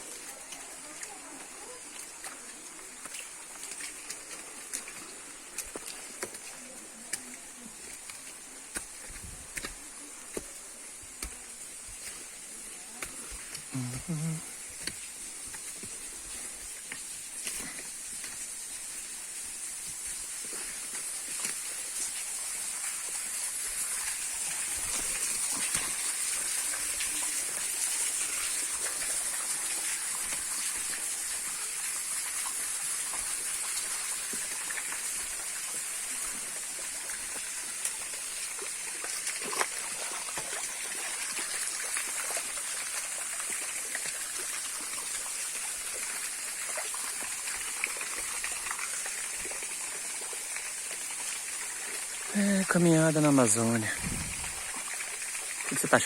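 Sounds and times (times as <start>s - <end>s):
steady high-pitched hiss: 0.0s - 56.0s
water running and splashing: 0.0s - 56.0s.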